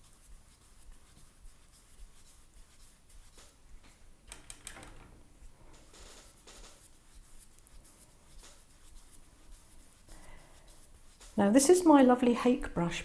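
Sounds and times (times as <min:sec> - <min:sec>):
brush swishing on paper: 0:00.0 - 0:03.8, 0:05.4 - 0:13.0.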